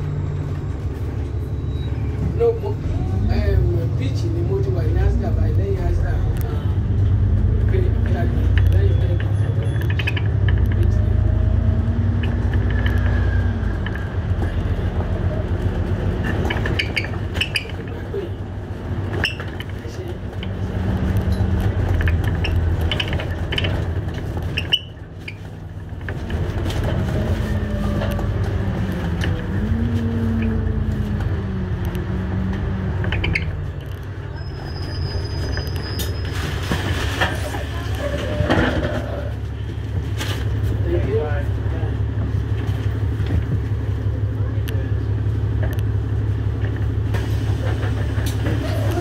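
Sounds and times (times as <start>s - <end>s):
bus engine drone: 0.0s - 49.0s.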